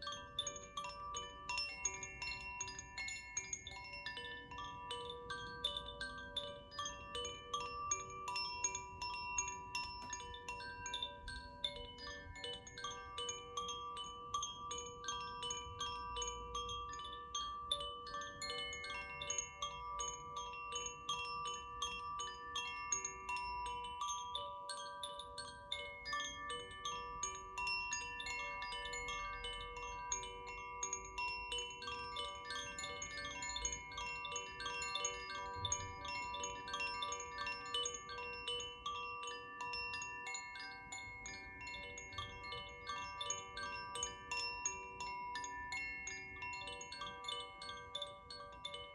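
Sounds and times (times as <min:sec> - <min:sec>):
wind chimes tinkling: 0:00.0 - 0:48.9.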